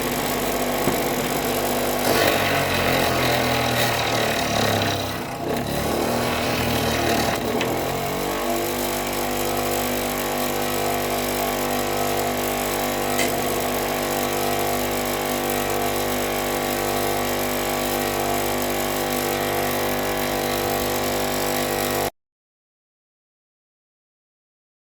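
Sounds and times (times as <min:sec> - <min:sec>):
power tool grinding wood: 0:00.0 - 0:22.1.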